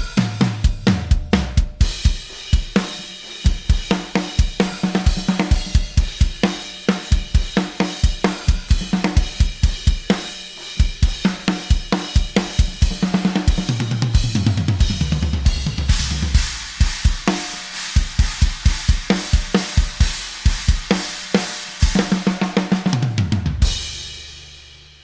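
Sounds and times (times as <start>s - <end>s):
drum kit fast groove: 0.0s - 25.0s.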